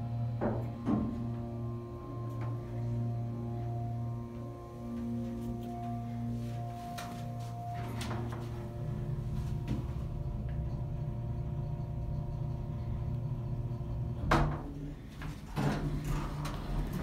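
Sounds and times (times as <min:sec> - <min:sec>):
elevator doors sliding open: 0:00.0 - 0:17.0
elevator low hum: 0:00.0 - 0:17.0.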